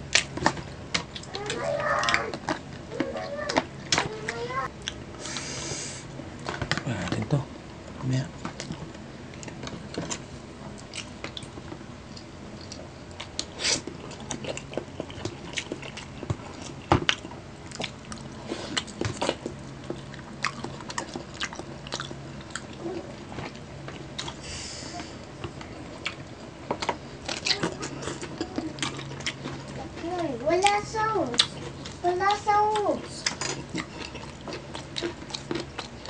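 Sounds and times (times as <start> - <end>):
chewing and lip smacks: 0.1 - 5.4, 8.5 - 24.4, 25.2 - 30.0, 30.6 - 36.0.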